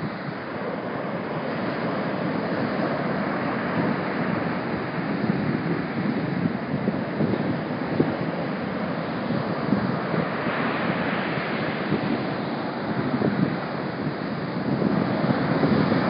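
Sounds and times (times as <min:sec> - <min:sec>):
waves breaking on beach: 0:00.0 - 0:16.0
wind rumbling on microphone: 0:00.0 - 0:16.0.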